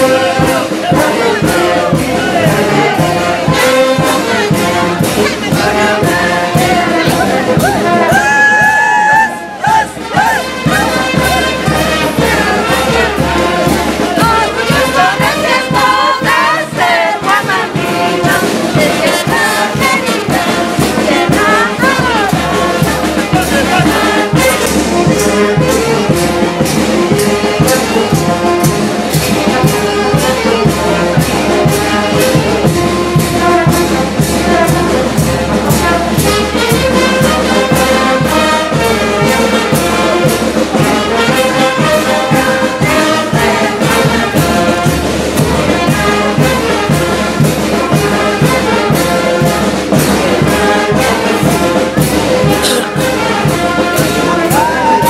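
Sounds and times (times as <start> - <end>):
brass band playing dance tune: 0.0 - 55.0
steady drum beat: 0.0 - 55.0.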